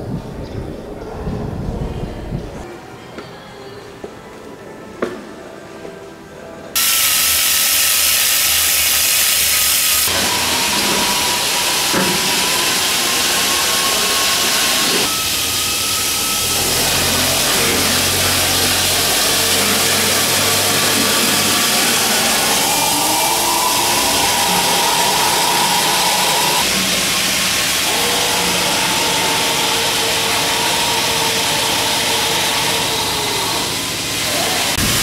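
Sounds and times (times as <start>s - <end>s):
machine hiss with faint whine: 6.8s - 35.0s.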